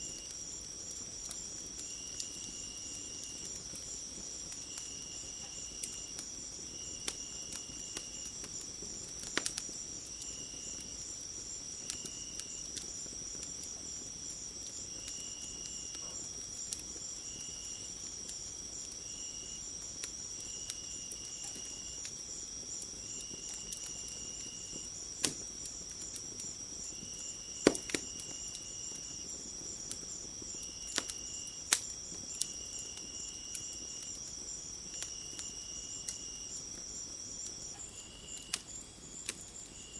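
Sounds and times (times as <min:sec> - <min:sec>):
crickets chirring: 0:00.0 - 0:39.9
insect trills: 0:00.0 - 0:39.9
wood fire crackling: 0:00.0 - 0:39.9.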